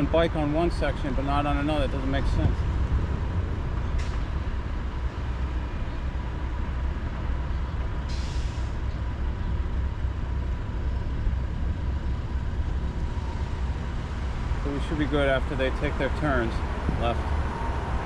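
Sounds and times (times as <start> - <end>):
low rumble of vehicles: 0.0 - 18.0.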